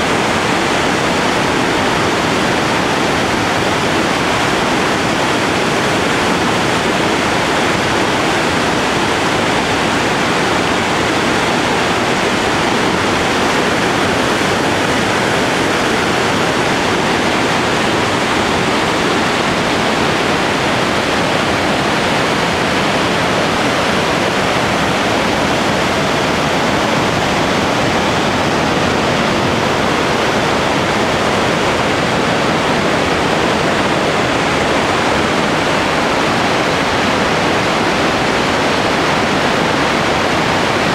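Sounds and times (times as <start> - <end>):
whitewater rushing: 0.0 - 40.9.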